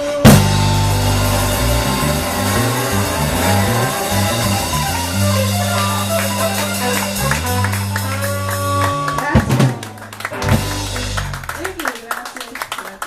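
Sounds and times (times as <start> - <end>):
live blues band playing: 0.0 - 11.9.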